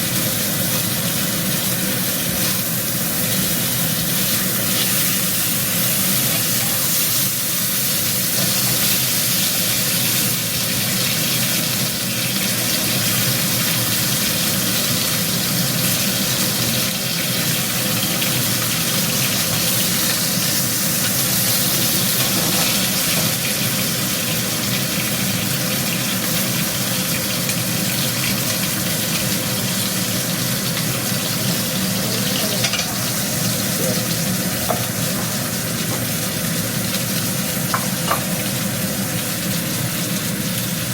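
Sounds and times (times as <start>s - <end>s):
meat sizzling in a pan: 0.0s - 40.9s.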